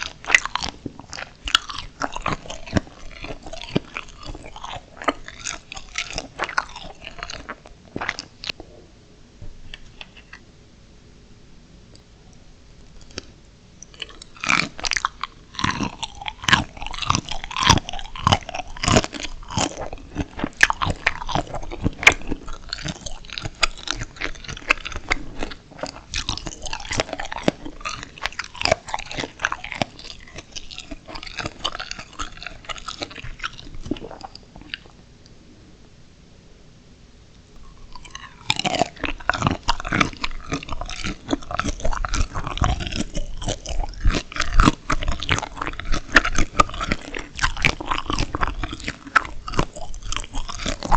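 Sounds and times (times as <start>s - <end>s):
crunchy shrimp chewing: 0.0s - 8.6s, 12.8s - 35.0s, 37.6s - 50.9s.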